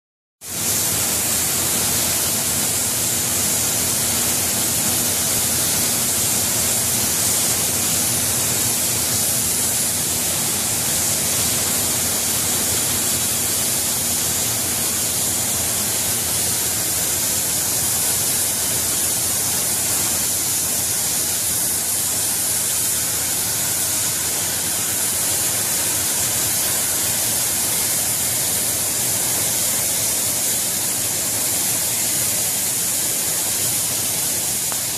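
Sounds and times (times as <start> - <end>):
cutting torches hissing: 0.6 - 34.9.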